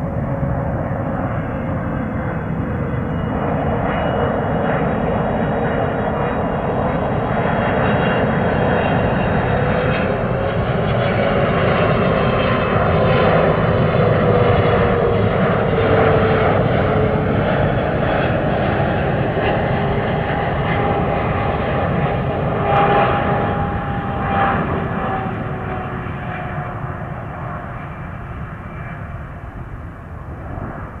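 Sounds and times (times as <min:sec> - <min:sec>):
jet engines rumbling and whining: 0:00.0 - 0:31.0.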